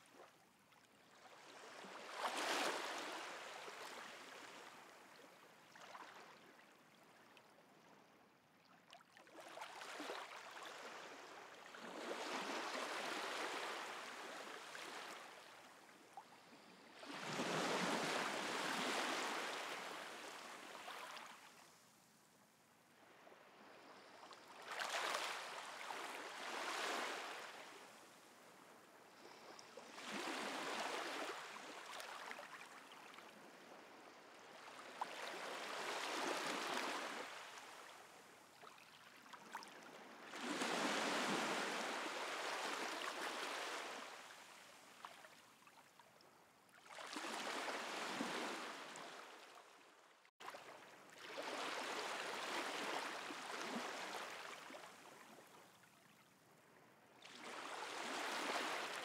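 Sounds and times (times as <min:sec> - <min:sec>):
small waves lapping shore: 0:00.0 - 0:59.0.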